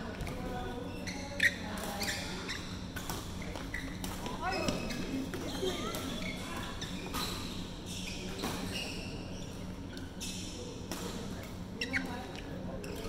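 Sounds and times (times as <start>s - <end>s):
shoes squeaking on court: 0.0s - 13.0s.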